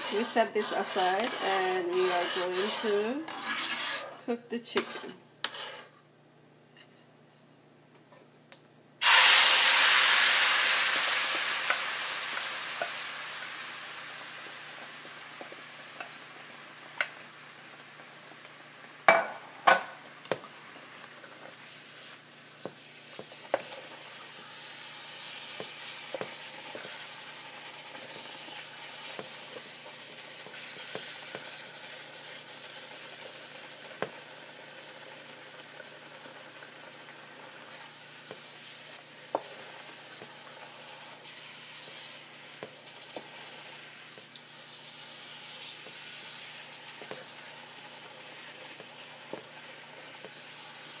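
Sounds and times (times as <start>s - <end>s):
chicken sizzling in a pan: 9.0s - 51.0s.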